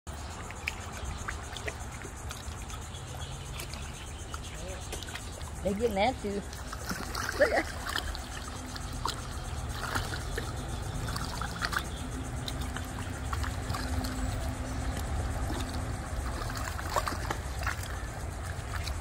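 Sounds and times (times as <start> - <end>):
low steady rumble: 0.1 - 19.0
water splashing and trickling: 0.1 - 19.0.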